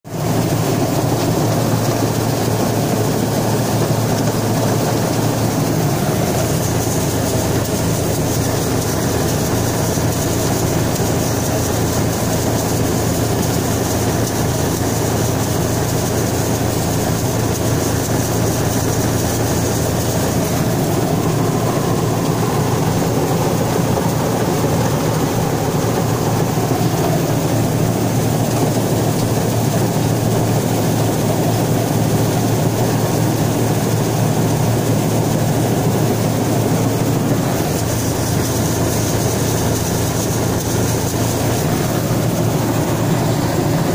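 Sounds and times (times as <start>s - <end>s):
combine harvester threshing: 0.2s - 43.9s.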